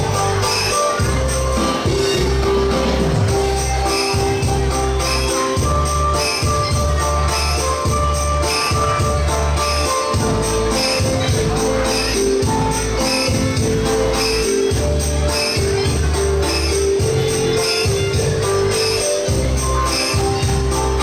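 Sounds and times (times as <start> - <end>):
dance music with steady beat: 0.0 - 21.0.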